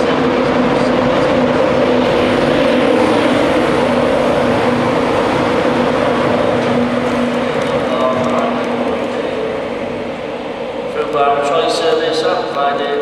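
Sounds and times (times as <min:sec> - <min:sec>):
electric train hum: 0:00.0 - 0:13.0
wheels rumbling on rails: 0:00.0 - 0:13.0.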